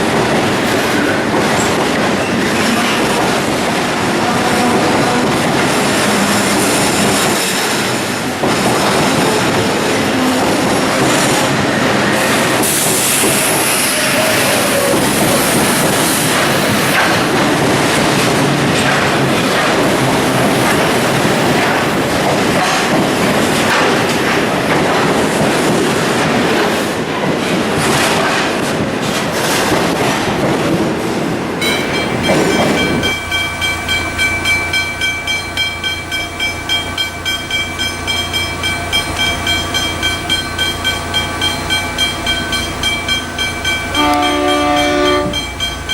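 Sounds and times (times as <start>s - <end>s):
train wheels rumbling on rails: 0.0s - 45.9s
wheels clickety-clack: 0.0s - 45.9s.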